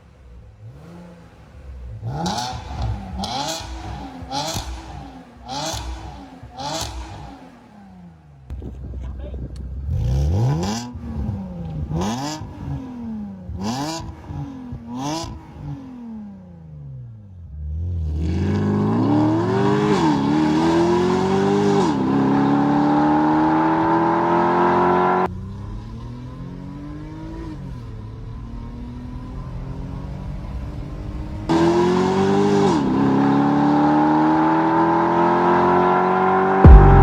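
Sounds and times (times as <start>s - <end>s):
car accelerating hard: 0.0s - 16.5s, 17.6s - 37.0s
car engine revving: 0.0s - 37.0s.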